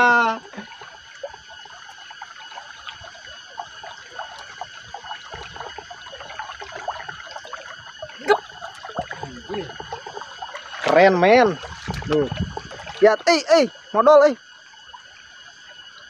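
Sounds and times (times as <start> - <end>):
stream babbling over rocks: 0.0 - 13.2
steady high ringing: 0.0 - 15.7.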